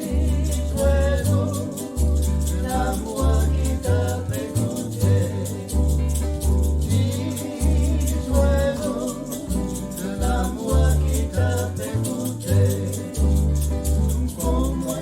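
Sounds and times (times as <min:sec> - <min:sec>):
person singing: 0:00.0 - 0:06.2, 0:06.8 - 0:15.0
deep bass notes: 0:00.0 - 0:15.0
plucked guitar: 0:00.0 - 0:15.0
shaker rhythm: 0:00.0 - 0:15.0.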